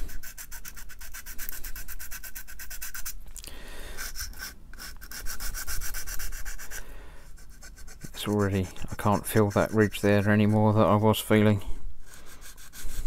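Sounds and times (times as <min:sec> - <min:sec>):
sanding stick rubbing plastic: 0:00.0 - 0:03.2, 0:04.0 - 0:06.8, 0:07.4 - 0:11.4, 0:12.0 - 0:13.0.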